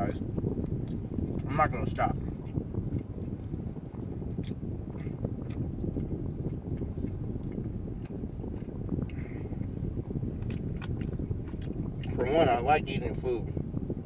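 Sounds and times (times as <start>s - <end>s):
air conditioner wind noise: 0.0s - 14.0s.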